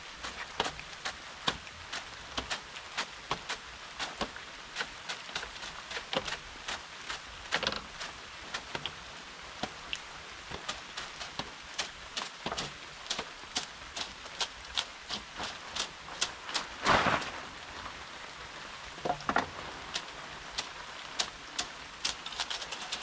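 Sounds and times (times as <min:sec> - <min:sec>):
close raindrops striking: 0:00.0 - 0:23.0
rain falling: 0:00.0 - 0:23.0.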